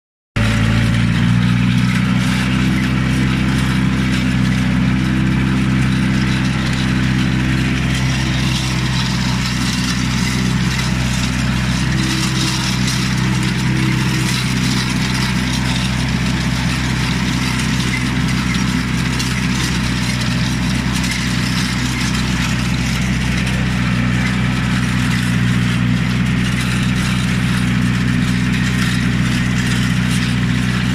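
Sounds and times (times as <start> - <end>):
tractor diesel engine running: 0.4 - 30.9.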